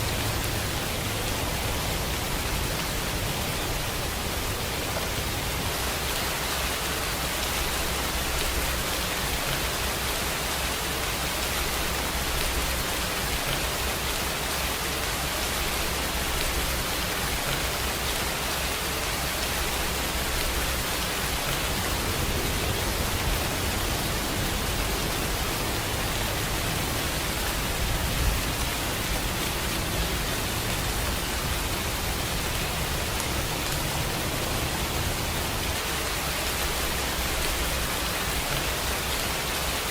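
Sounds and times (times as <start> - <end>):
louder raindrops: 0.0 - 39.9
steady rain hissing: 0.0 - 39.9.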